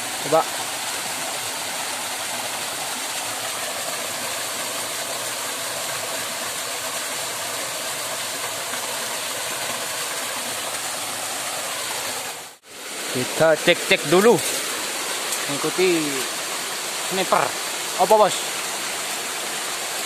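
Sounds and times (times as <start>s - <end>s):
waterfall and stream rushing: 0.0s - 20.0s.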